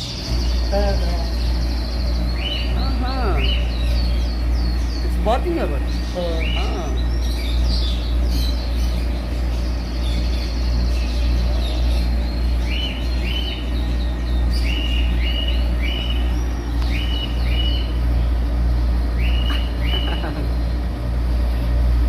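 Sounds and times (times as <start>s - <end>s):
caged birds chirping: 0.0s - 22.0s
steady low hum: 0.0s - 22.0s.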